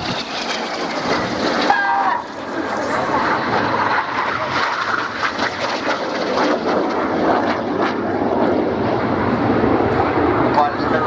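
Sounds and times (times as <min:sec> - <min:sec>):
jets flying overhead: 0:00.0 - 0:11.0.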